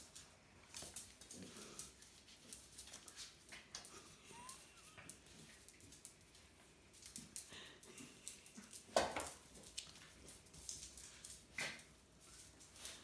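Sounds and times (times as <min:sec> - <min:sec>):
paws and claws scrabbling: 0:00.0 - 0:13.0.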